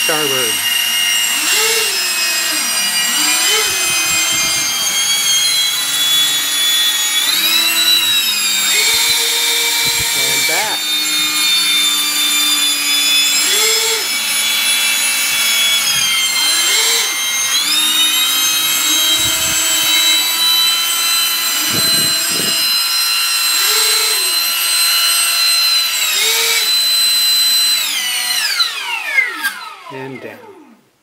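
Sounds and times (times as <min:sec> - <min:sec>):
electric ducted fans whining: 0:00.0 - 0:30.4.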